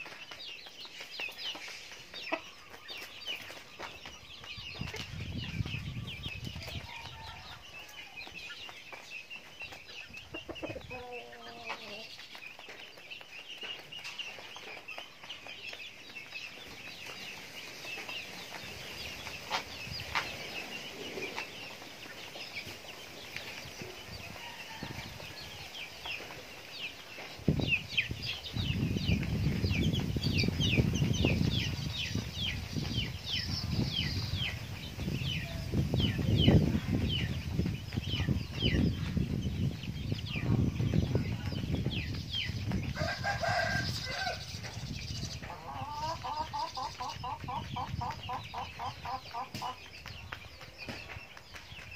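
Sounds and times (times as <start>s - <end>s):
chicks chirping: 0.0s - 51.9s
low rustling noise in gusts: 0.0s - 51.9s.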